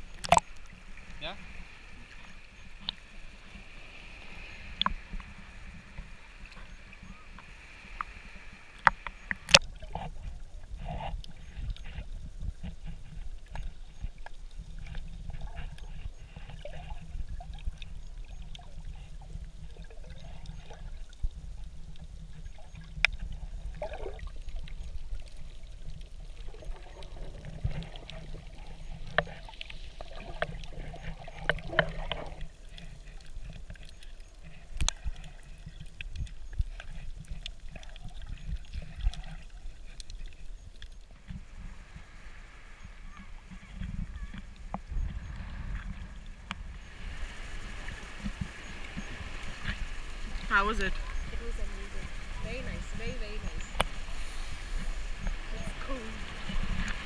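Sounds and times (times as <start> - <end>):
muffled rumble of moving water: 0.0 - 57.0
underwater clicks and gurgles: 0.0 - 57.0.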